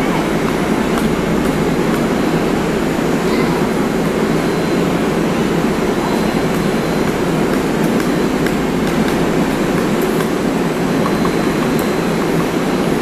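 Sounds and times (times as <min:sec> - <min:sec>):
idling train hum: 0:00.0 - 0:13.0.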